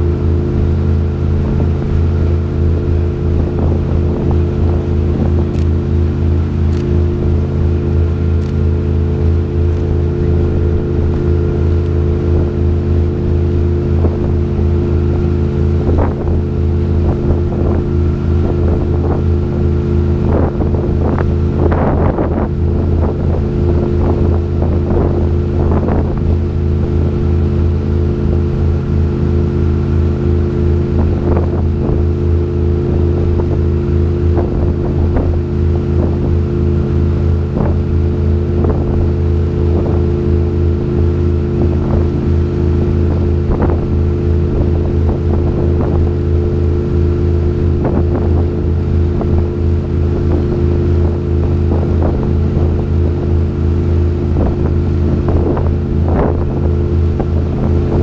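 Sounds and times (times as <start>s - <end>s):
boat engine droning: 0.0s - 58.0s
rushing wind and water: 0.0s - 58.0s.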